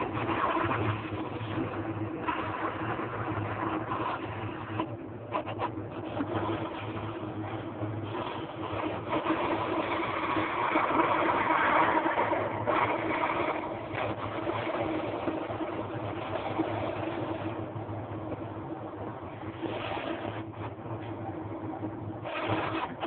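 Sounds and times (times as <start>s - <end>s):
steam hissing: 0.0s - 17.9s, 22.2s - 23.0s
low hum: 0.0s - 23.0s.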